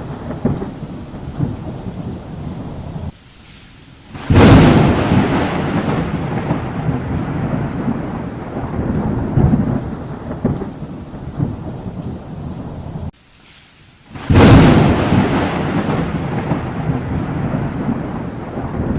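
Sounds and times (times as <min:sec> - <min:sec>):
thunder rumbling: 0:00.0 - 0:03.2, 0:04.1 - 0:13.1, 0:14.2 - 0:18.9.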